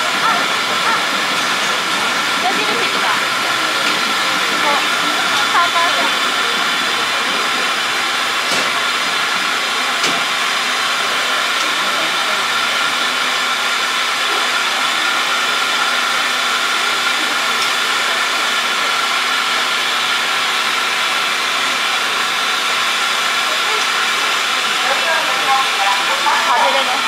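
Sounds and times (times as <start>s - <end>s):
steam hissing: 0.0s - 27.0s.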